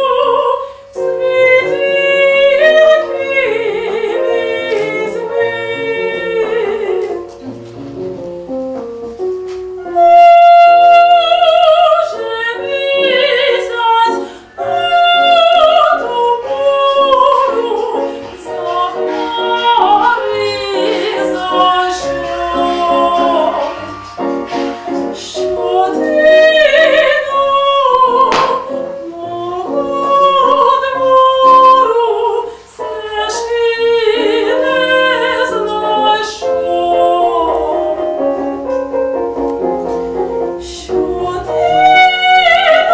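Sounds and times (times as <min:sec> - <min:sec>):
classical singing with vibrato: 0:00.0 - 0:42.9
instrumental accompaniment: 0:00.0 - 0:42.9.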